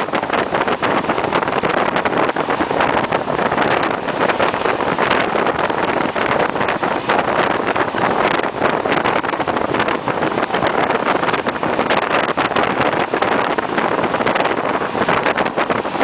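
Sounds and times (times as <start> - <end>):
passenger train rushing and clattering: 0.0 - 16.0
wind on microphone: 0.0 - 16.0.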